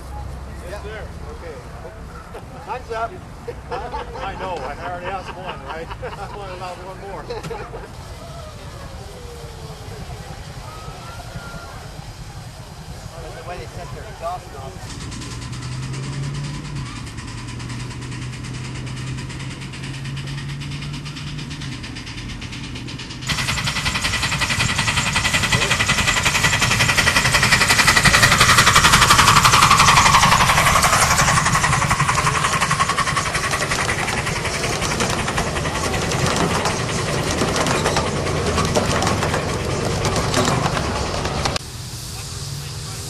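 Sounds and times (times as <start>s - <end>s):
steam locomotive chuffing: 0.0s - 43.0s.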